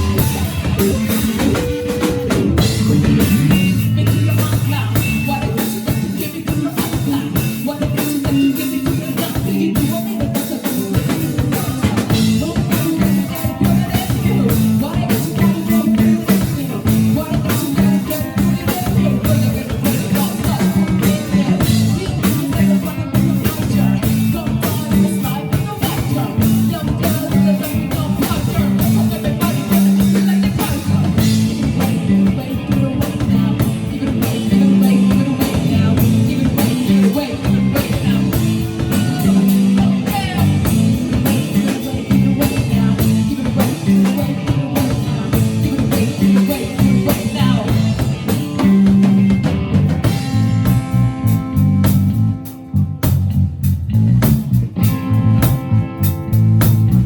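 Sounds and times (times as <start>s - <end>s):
person singing: 0.0s - 50.6s
drum kit: 0.0s - 57.0s
electric guitar: 0.0s - 57.0s.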